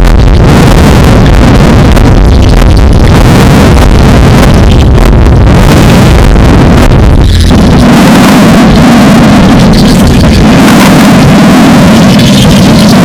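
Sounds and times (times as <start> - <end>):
deep rumble: 0.0 - 13.0
distorted logo soundtrack: 0.0 - 13.0
low hum: 0.0 - 13.0.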